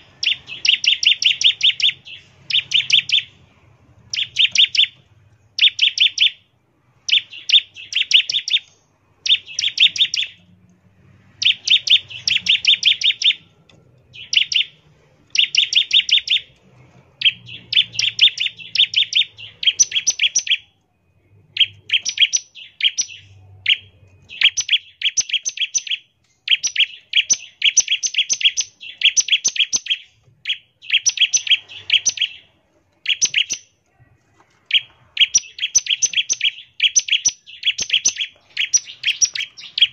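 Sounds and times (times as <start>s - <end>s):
bird singing rattling song: 0.0s - 33.8s, 34.7s - 39.9s.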